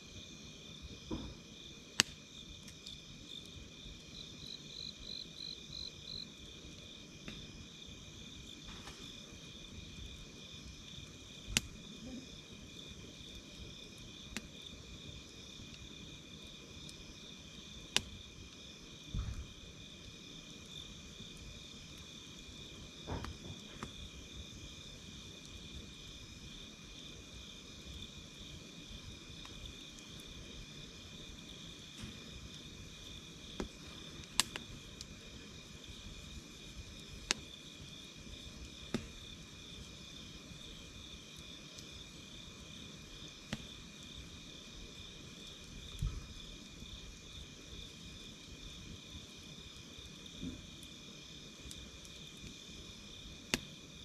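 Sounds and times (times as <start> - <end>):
campfire crackling: 0.0 - 54.0
night insects trilling: 0.0 - 54.0.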